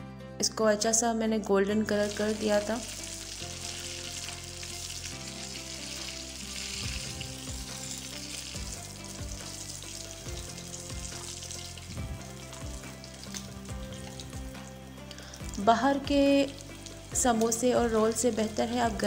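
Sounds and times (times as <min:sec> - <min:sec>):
spring rolls sizzling in oil: 0:02.0 - 0:19.0.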